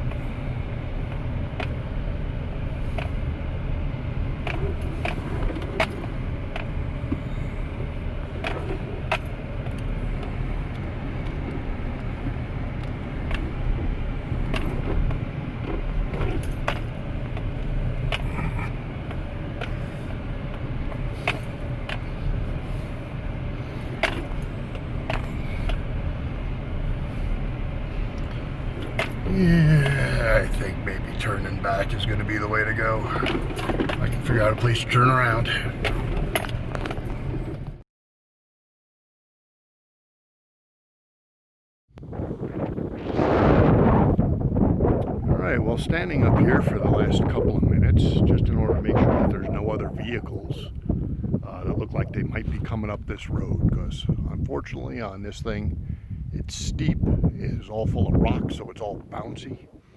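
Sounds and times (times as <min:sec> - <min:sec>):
truck engine low rumble: 0:00.0 - 0:37.8, 0:42.0 - 0:59.9.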